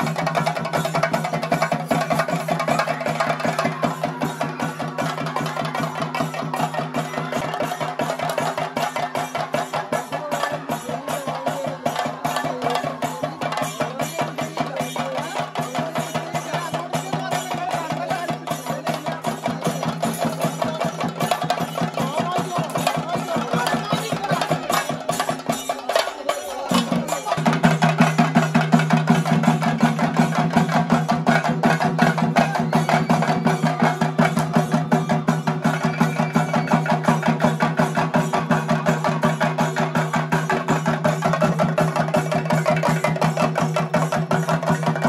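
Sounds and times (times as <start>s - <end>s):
fast drumming: 0.0s - 45.0s.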